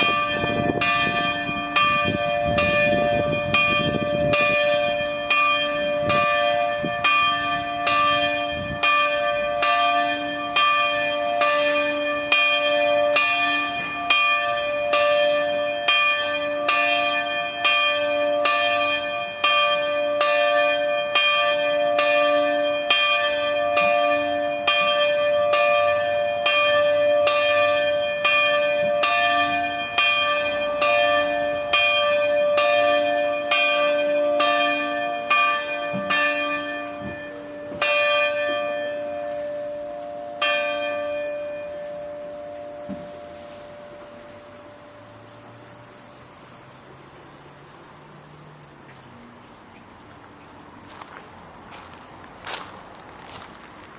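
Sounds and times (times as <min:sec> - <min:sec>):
church bells ringing: 0:00.0 - 0:46.2, 0:50.9 - 0:53.5.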